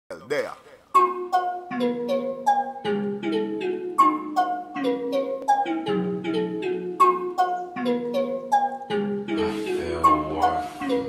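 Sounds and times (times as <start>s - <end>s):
melody of short plucked notes: 0.9s - 11.0s.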